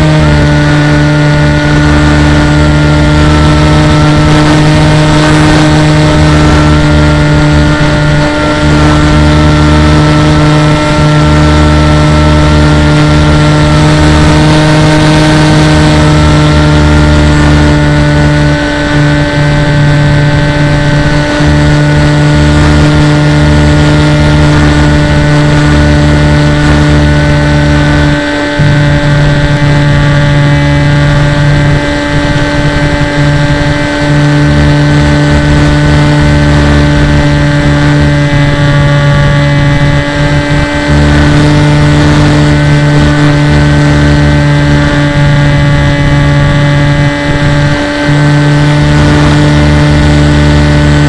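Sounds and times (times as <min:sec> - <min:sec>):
model aircraft motor whine: 0:00.0 - 0:51.0.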